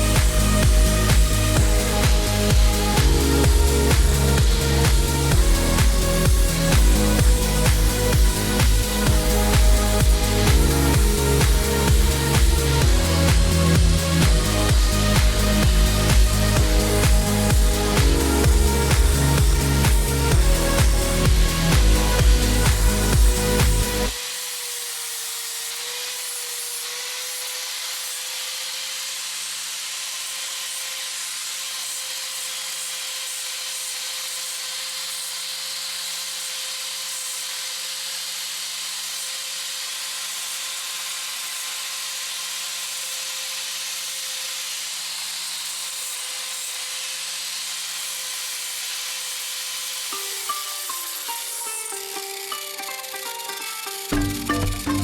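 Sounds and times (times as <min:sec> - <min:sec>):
small power tool whining: 0:00.0 - 0:55.0.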